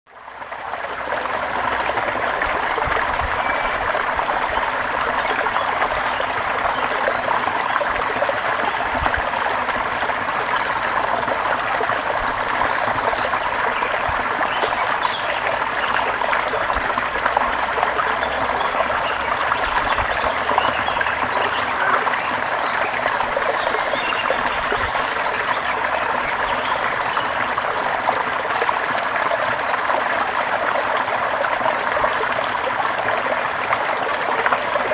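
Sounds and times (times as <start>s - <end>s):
stream flowing: 0.1s - 34.9s.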